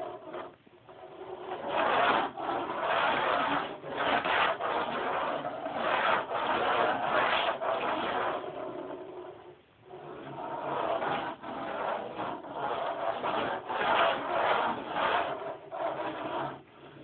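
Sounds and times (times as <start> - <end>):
rough rubbing strokes: 0.0 - 17.0.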